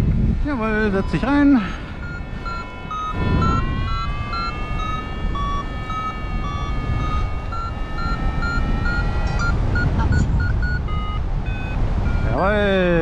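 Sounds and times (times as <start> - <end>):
wind rushing on microphone: 0.0 - 13.0
rising held tone: 0.8 - 12.3
variometer short beeps: 0.9 - 12.8.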